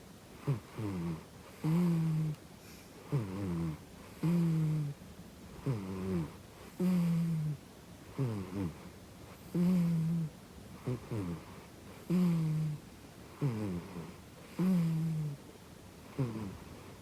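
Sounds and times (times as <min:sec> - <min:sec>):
cat snoring: 0:00.4 - 0:02.4, 0:03.0 - 0:05.0, 0:05.6 - 0:15.4, 0:16.0 - 0:17.0.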